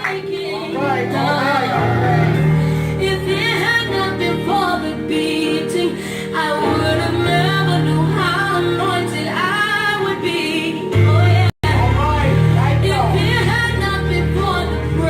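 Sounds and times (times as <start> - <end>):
low instrumental chords: 0.0 - 15.0
person singing gospel song: 0.0 - 15.0.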